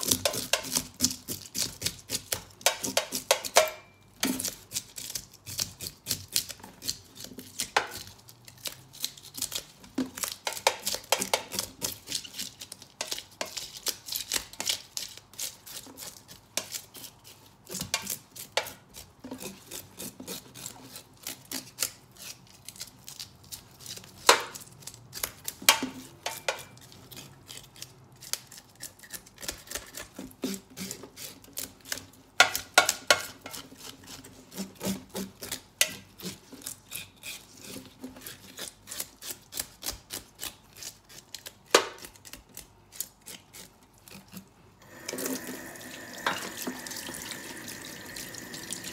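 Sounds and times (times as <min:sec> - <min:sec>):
knife scraping fish scales: 0:00.0 - 0:48.9.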